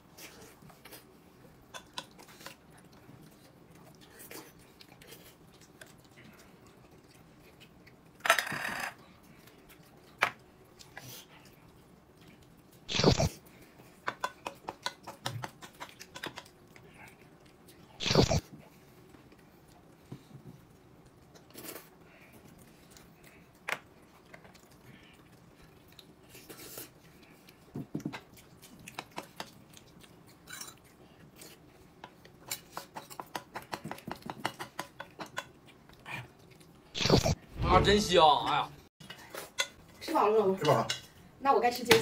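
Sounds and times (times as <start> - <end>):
person chewing food: 0.1 - 8.2, 9.1 - 37.6.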